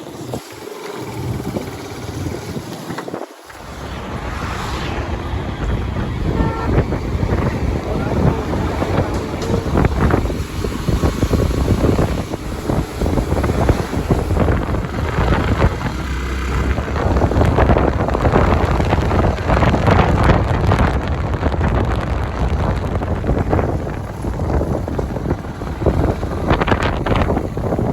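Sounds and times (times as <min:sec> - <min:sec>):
wind buffeting microphone: 0:00.1 - 0:27.9
moving vehicle rumble: 0:01.0 - 0:27.9.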